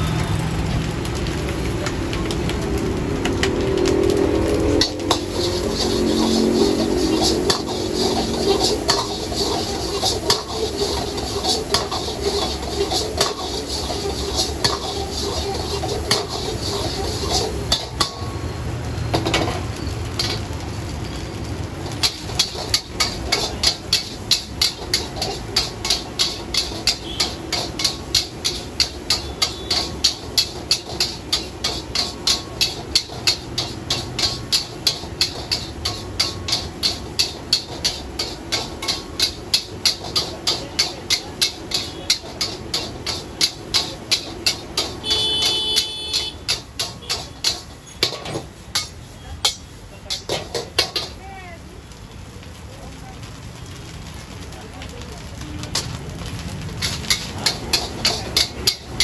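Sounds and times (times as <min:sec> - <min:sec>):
metal ladle scraping a wok: 0:04.1 - 0:51.2, 0:55.7 - 0:59.0.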